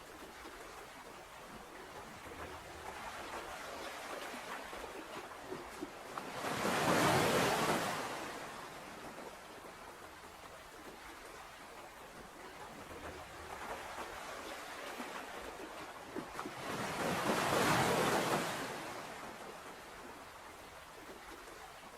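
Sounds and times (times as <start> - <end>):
ocean waves washing onto shore: 0.0 - 21.9.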